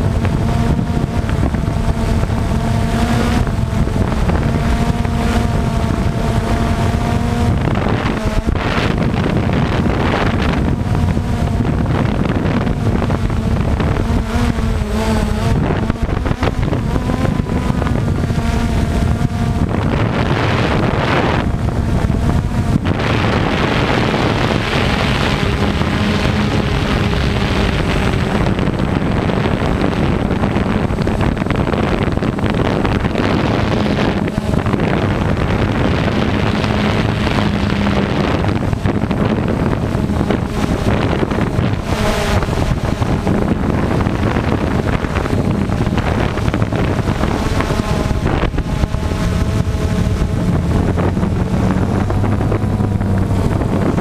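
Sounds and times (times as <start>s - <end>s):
drone motors humming: 0.0s - 54.0s
wind buffeting microphone: 0.0s - 54.0s.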